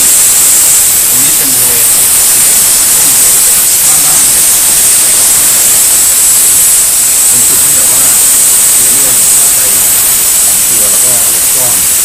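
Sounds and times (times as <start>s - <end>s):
steam cleaner hissing: 0.0s - 12.0s.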